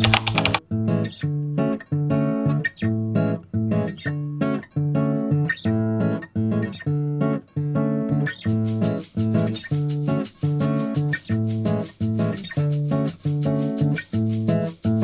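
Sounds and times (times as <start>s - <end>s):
acoustic guitar plucked chords: 0.6s - 15.0s.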